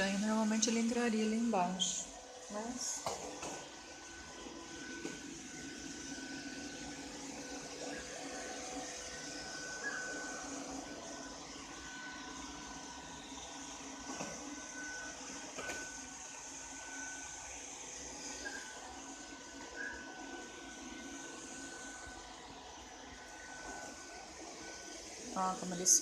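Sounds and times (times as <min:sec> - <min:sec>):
robot vacuum cleaner running: 0:00.0 - 0:26.0.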